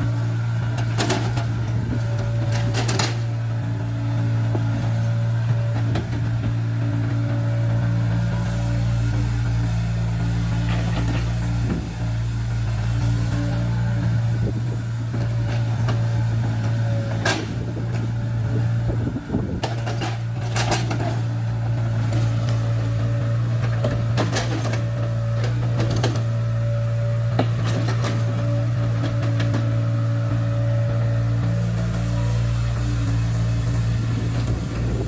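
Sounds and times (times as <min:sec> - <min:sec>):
excavator diesel engine running: 0:00.0 - 0:35.0
hydraulic whine: 0:00.0 - 0:35.0.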